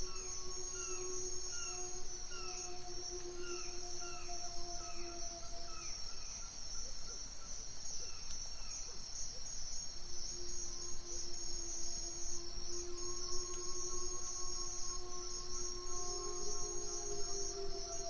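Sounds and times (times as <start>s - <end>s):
soft low drone: 0.0s - 7.1s, 10.0s - 18.0s
crickets chirping: 0.0s - 18.0s.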